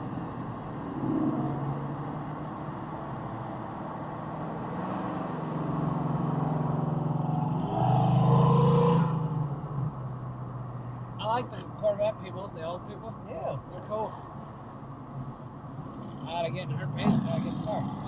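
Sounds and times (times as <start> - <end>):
car engine: 0.0 - 18.0
road noise inside car: 0.0 - 18.0.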